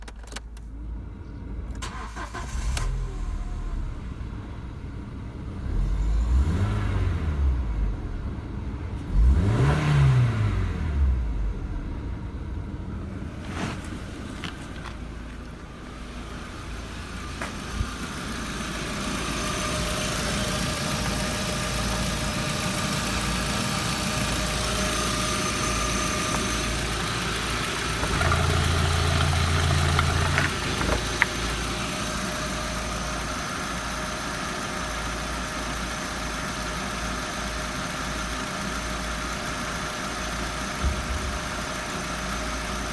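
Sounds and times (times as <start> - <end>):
car engine revving and idling: 0.5 - 42.9.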